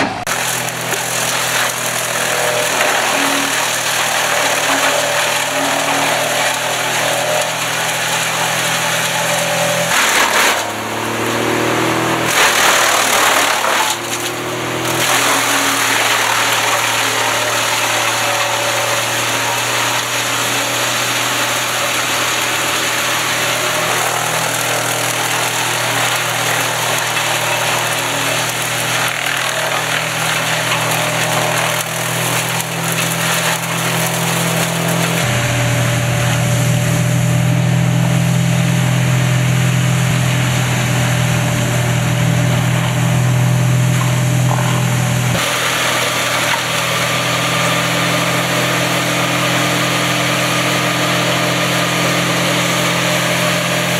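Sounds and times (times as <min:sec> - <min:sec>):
wood chipper engine running: 0:00.0 - 0:53.9.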